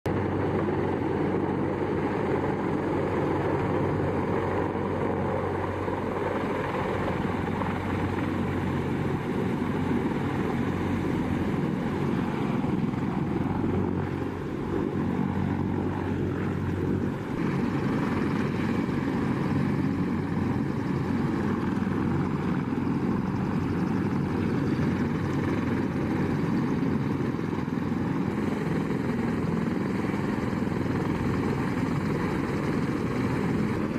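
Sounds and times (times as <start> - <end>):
helicopter rotors roaring: 0.1 - 33.9.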